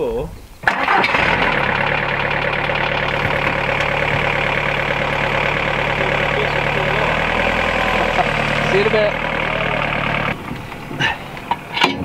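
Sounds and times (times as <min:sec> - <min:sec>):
van engine idling: 0:00.6 - 0:12.0.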